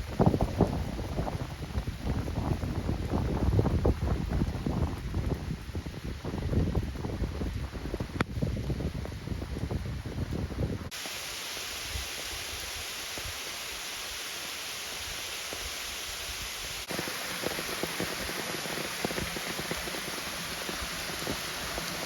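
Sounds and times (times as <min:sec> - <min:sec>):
rain and rushing water: 0:00.0 - 0:22.0.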